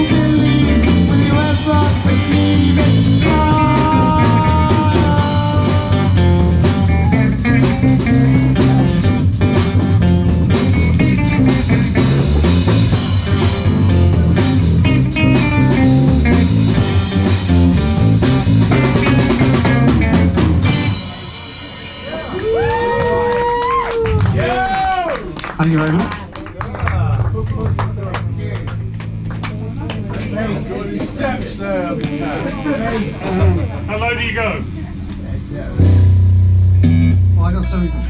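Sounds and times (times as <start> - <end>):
lead guitar sustained notes: 0.0 - 22.3, 26.6 - 38.0
rock band playing: 0.0 - 38.0.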